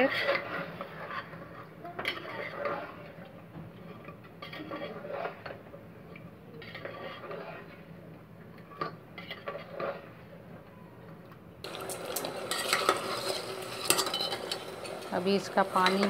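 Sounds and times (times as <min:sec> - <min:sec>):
spatula scraping metal pot: 0:00.0 - 0:05.7, 0:06.6 - 0:07.9, 0:08.6 - 0:10.2, 0:11.6 - 0:16.0.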